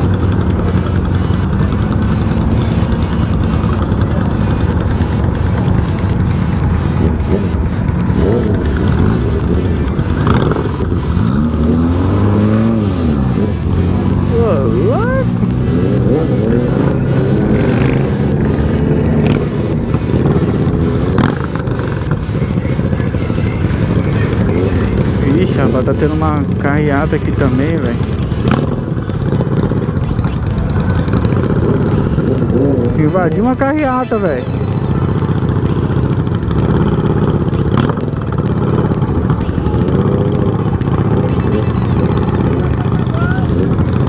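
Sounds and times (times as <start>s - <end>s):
motorcycle engines rumbling: 0.0s - 44.0s.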